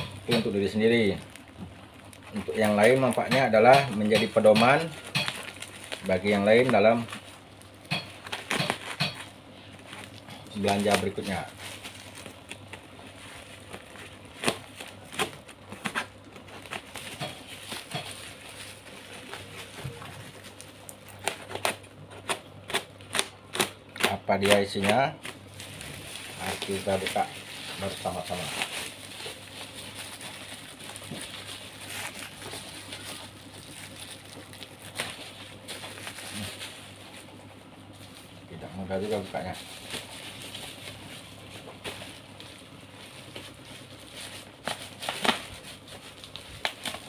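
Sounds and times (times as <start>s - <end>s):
low steady hum: 0.0s - 47.0s
plastic bag crinkling: 0.0s - 47.0s.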